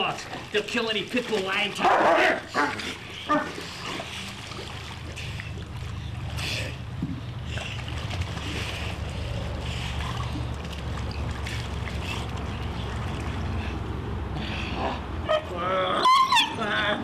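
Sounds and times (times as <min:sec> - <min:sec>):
water splashing in pool: 0:00.0 - 0:15.1.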